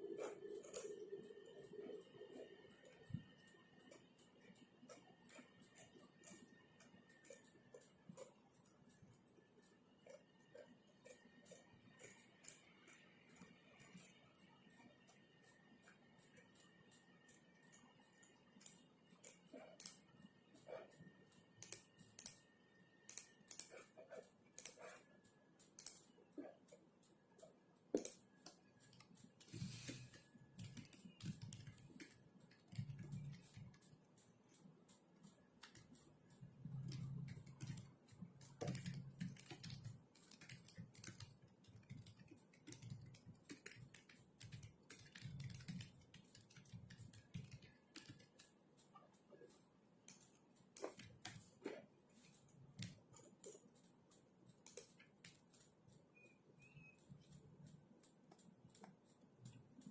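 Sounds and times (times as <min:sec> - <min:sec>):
computer keyboard typing: 0:00.0 - 0:59.9.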